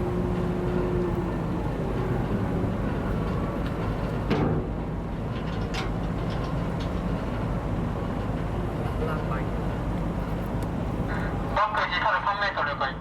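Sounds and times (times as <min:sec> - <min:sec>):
car ferry engine drone: 0:00.0 - 0:13.0.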